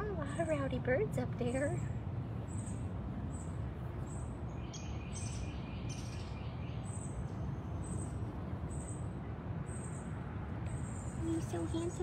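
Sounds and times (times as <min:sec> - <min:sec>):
birds chirping: 0:00.0 - 0:12.0
low background rumble: 0:00.0 - 0:12.0.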